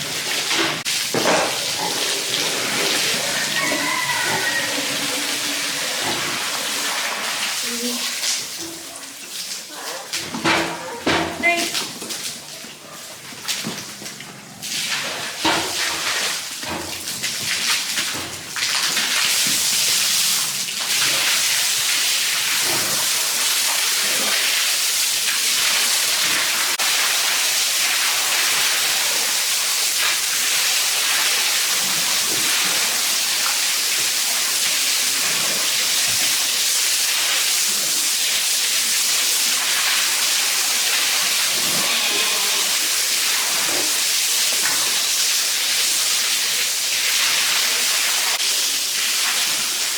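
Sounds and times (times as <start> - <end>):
rushing water spray: 0.0 - 10.2, 11.4 - 49.9.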